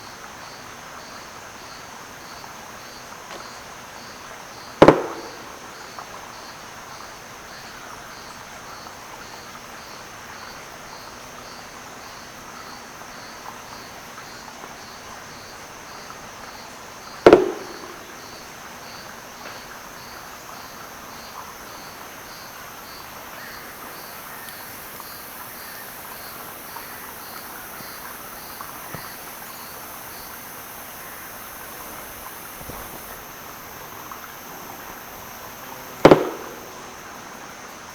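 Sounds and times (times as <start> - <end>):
pulsing insect chorus: 0.0 - 37.9.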